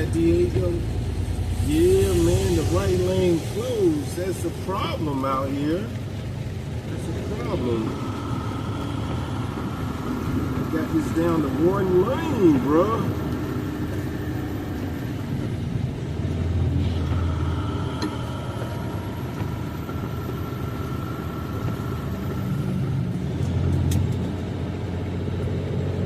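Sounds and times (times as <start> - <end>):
faint held whine: 0.0 - 24.3
truck engine rumble in cab: 0.0 - 26.0.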